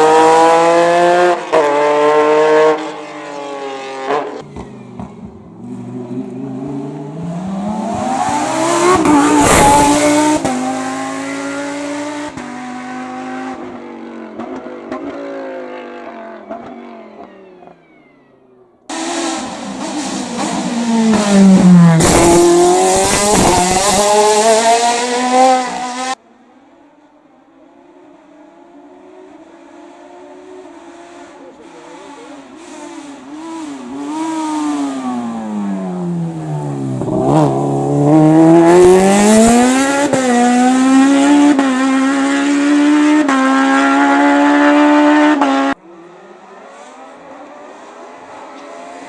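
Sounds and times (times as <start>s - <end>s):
race cars passing at full throttle: 0.0s - 49.0s.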